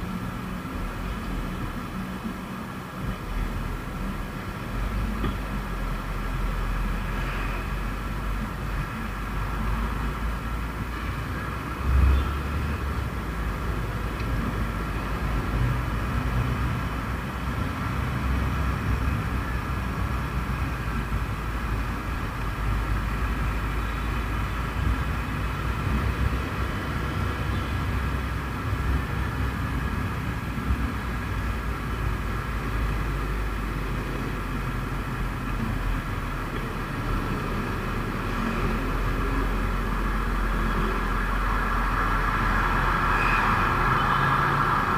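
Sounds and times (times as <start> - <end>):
traffic: 0.0 - 44.9.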